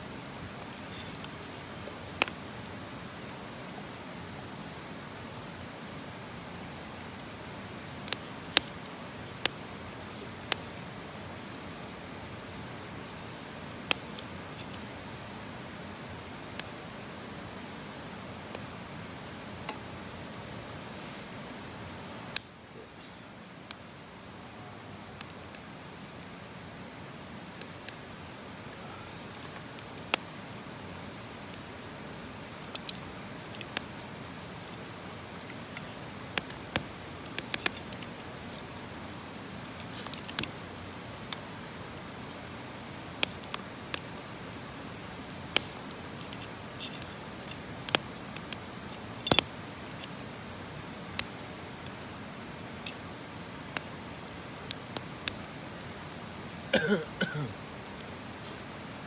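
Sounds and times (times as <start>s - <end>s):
low fire hiss: 0.0s - 59.0s
campfire crackling and popping: 0.1s - 59.0s.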